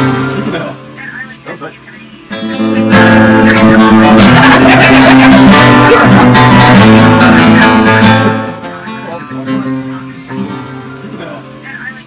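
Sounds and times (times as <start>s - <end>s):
strummed acoustic guitar music: 0.0s - 1.4s, 2.2s - 12.0s.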